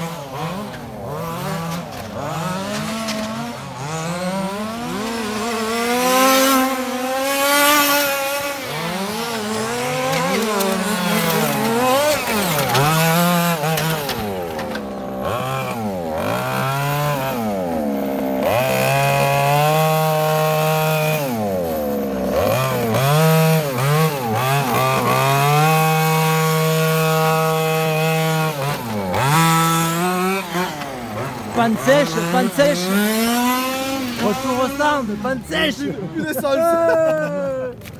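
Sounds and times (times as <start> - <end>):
two-stroke engines revving: 0.0 - 37.9.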